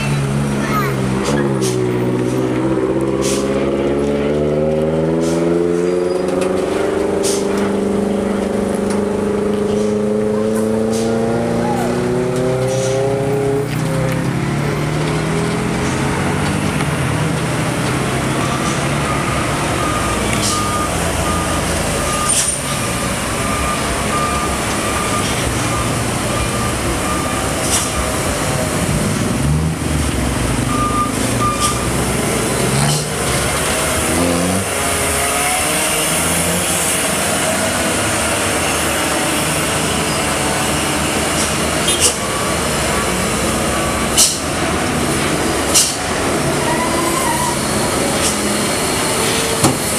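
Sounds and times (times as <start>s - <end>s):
diesel trucks climbing under load: 0.0s - 49.9s
passing traffic: 0.0s - 49.9s.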